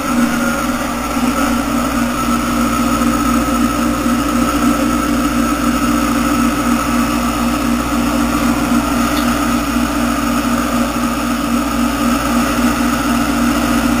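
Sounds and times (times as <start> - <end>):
filter motor hum: 0.0 - 14.0
water churning: 0.0 - 14.0.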